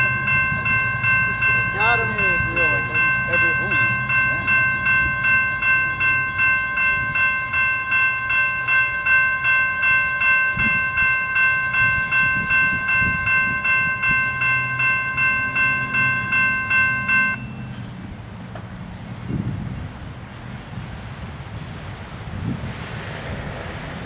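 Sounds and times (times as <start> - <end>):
railroad crossing bell clanging: 0.0 - 19.6.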